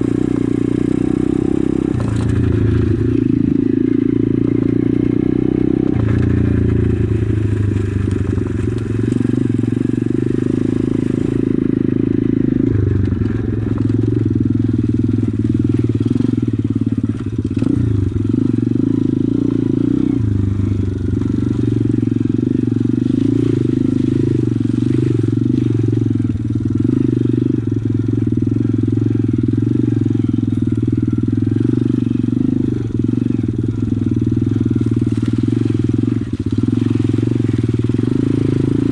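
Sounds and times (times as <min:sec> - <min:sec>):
pit bike engine running: 0:00.0 - 0:38.9.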